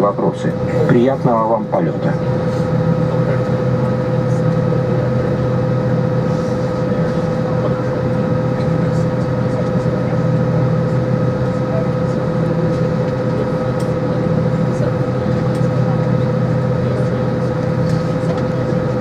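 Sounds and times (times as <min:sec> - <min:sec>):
aircraft cabin drone: 0:00.0 - 0:19.0
mid-pitched whine: 0:00.0 - 0:19.0.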